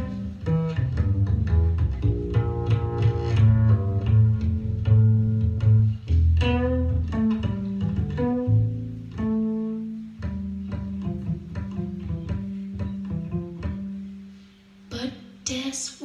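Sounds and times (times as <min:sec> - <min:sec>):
plucked double bass: 0:00.0 - 0:14.4.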